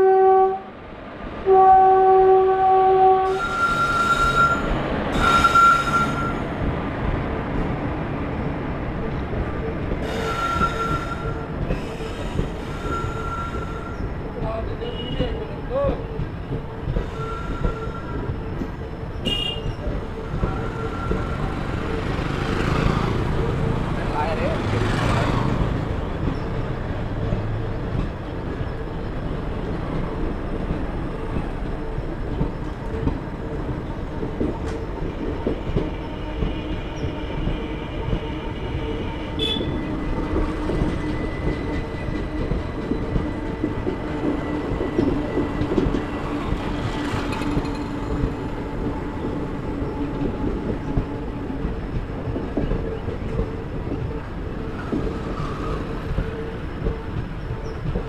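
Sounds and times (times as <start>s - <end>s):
train coaches rumbling past: 0.0s - 58.0s
wheels clacking over rail joints: 9.0s - 58.0s.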